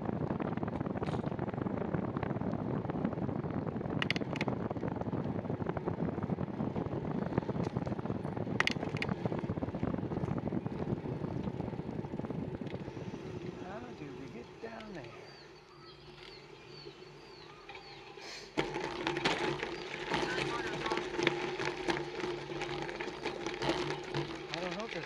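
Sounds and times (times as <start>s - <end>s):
bicycle tyre noise on dirt: 0.0s - 25.0s
wind buffeting microphone: 0.0s - 25.0s.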